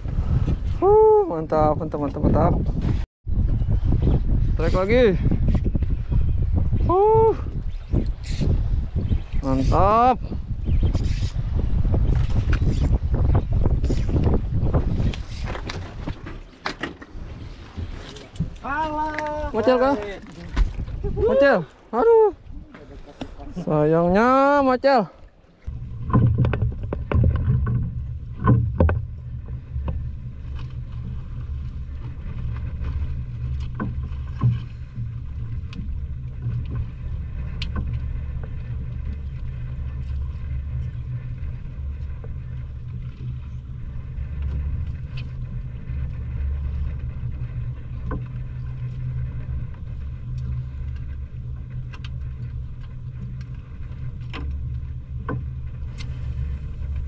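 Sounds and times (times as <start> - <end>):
boat engine humming: 4.7 - 57.0.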